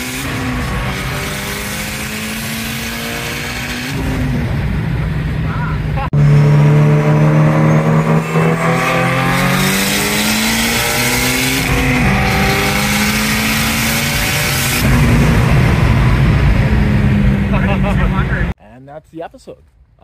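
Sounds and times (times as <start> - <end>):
car engine accelerating: 0.0 - 18.6.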